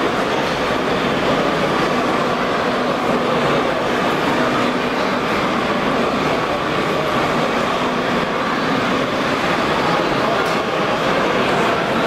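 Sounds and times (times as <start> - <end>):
busy exhibition hall background noise: 0.0 - 12.0
faint voices: 0.0 - 12.0.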